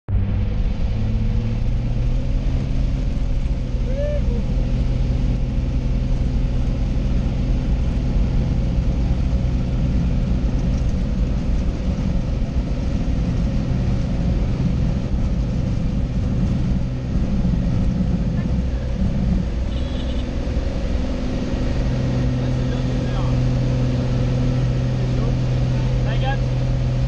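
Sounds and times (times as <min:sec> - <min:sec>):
aircraft engine and propeller drone: 0:00.1 - 0:27.0.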